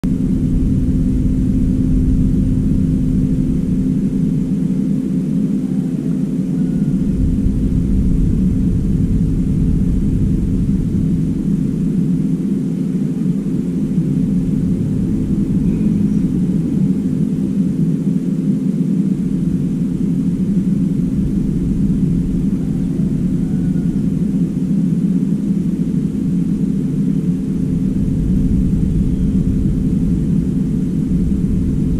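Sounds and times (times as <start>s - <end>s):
constant hum: 0.0s - 31.9s
low mechanical drone: 0.0s - 31.9s.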